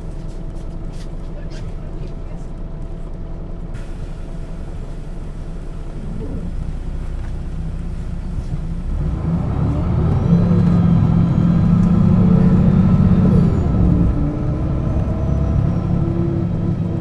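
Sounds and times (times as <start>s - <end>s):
bus engine pulling: 0.0s - 17.0s.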